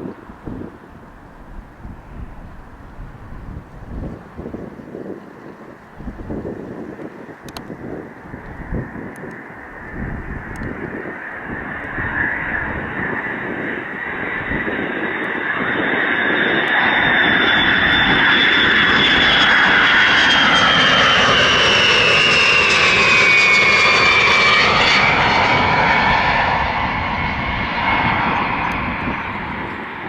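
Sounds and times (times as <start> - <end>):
jet passing close by: 0.0 - 30.0
high engine whine: 5.6 - 30.0.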